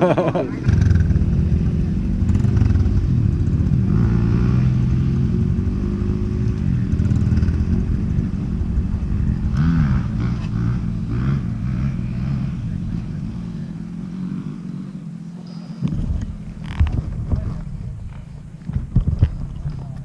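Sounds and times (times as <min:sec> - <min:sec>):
off-road motorcycle engine running: 0:00.0 - 0:20.0.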